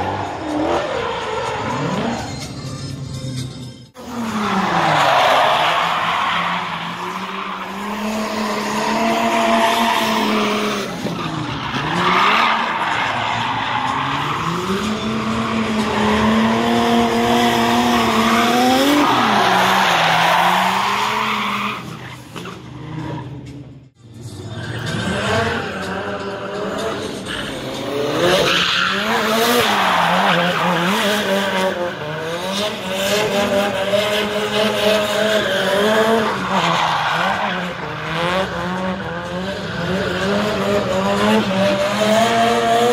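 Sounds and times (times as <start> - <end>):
car engine at high revs: 4.0 - 23.5, 24.5 - 42.9.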